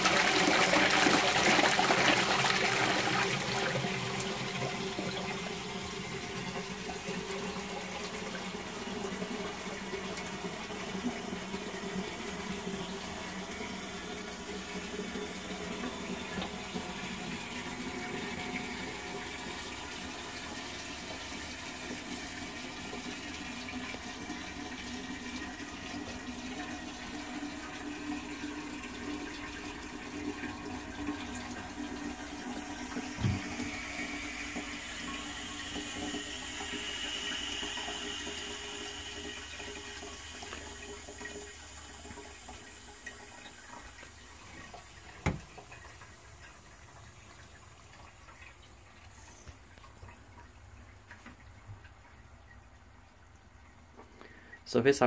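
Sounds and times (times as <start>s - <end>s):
toilet cistern refilling: 0.0s - 55.0s.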